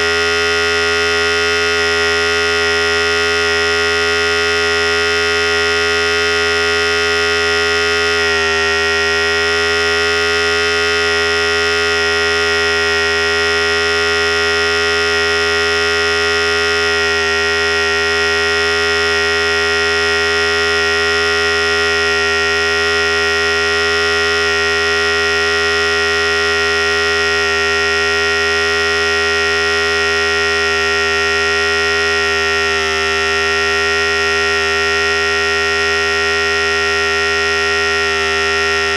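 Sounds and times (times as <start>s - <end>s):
electric hair clipper buzzing: 0.0s - 38.9s.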